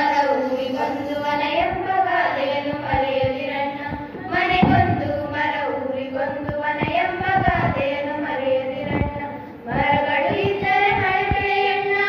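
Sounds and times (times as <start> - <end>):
girls singing together: 0.0 - 12.0.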